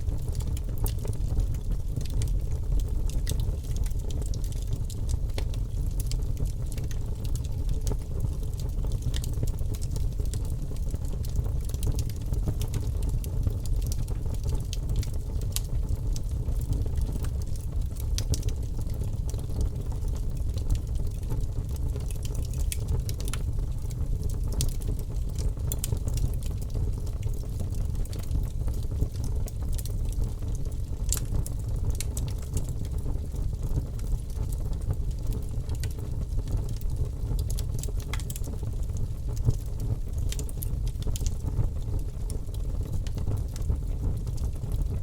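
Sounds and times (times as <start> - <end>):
burning wood crackling and popping: 0.0 - 45.0.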